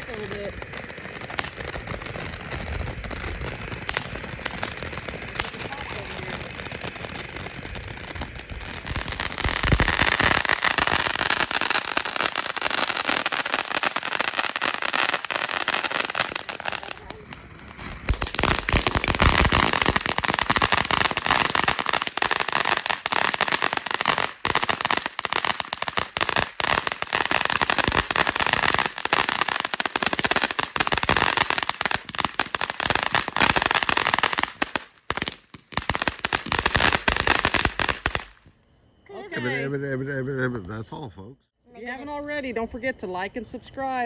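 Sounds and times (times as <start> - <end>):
firework crackling: 0.0 - 38.6.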